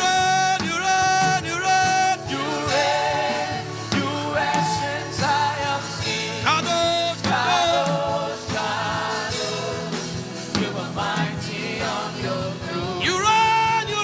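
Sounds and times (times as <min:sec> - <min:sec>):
band with steady drum beat: 0:00.0 - 0:14.0
person singing gospel song: 0:00.0 - 0:14.0.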